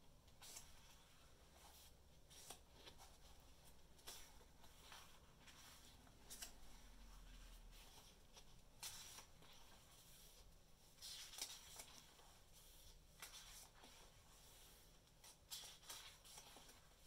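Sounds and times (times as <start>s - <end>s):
book pages turning: 0.3s - 10.4s, 11.0s - 17.0s.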